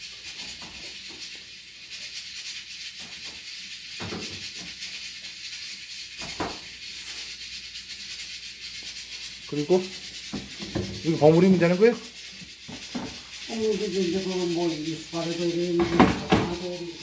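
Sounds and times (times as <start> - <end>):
pressure cooker hissing: 0.0 - 17.0.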